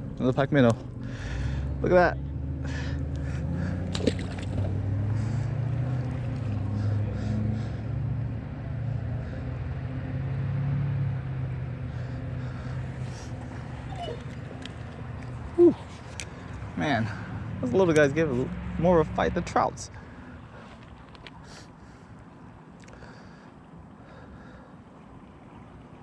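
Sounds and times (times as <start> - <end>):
distant engine drone: 0.0 - 26.0.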